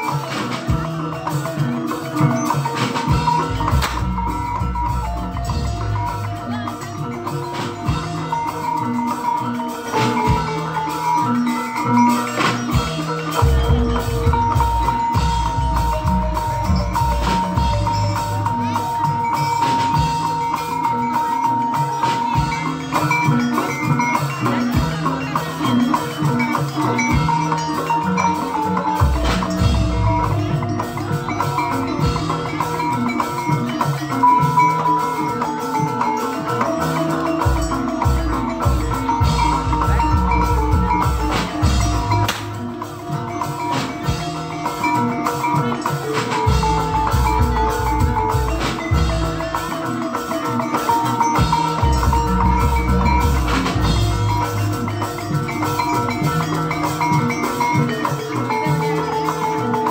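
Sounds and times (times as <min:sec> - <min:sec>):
drumming: 0:00.0 - 0:59.9
ringing metallophone notes: 0:00.0 - 0:59.9.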